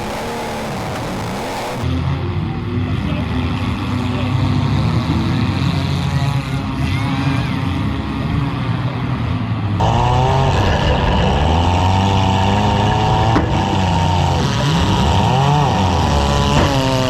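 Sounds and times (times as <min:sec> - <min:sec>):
car engines revving: 0:00.0 - 0:02.0, 0:02.9 - 0:17.0.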